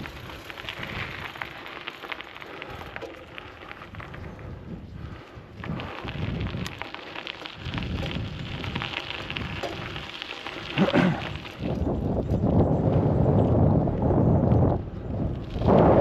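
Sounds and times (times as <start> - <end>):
bicycle tyres rolling: 0.0 - 16.0
bike rattling: 0.0 - 16.0
wind buffeting microphone: 0.0 - 16.0.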